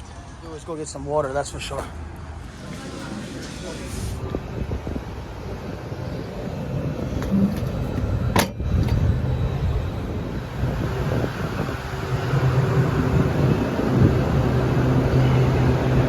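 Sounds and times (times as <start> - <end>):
air conditioning units humming: 0.0 - 16.0.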